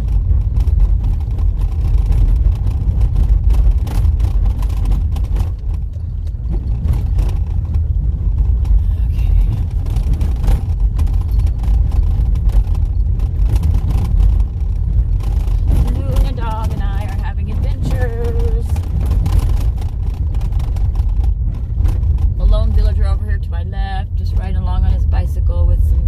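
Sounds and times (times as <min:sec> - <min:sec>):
knocks and rattles: 0:00.0 - 0:23.2
car rumbling on dirt road: 0:00.0 - 0:26.0.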